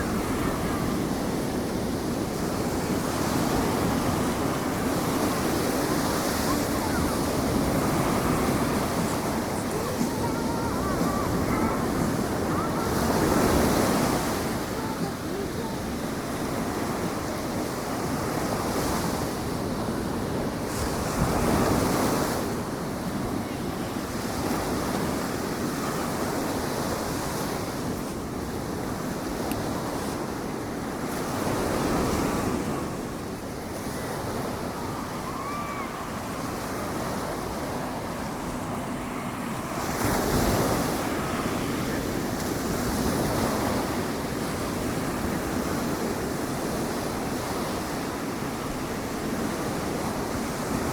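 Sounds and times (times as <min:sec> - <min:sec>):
ocean surf washing onto beach: 0:00.0 - 0:50.9.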